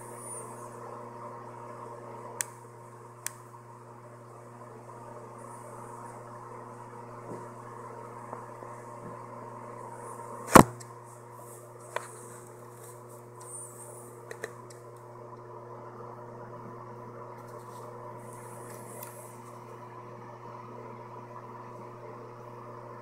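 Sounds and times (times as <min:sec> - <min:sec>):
low hum of even tones: 0:00.0 - 0:23.0.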